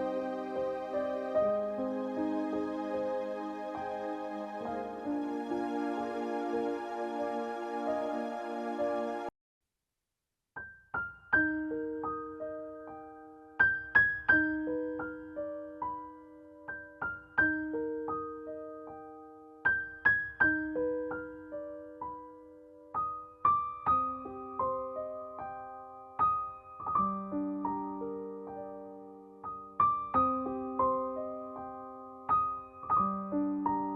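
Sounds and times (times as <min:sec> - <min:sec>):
slow solo piano: 0:00.0 - 0:09.3, 0:10.9 - 0:33.9.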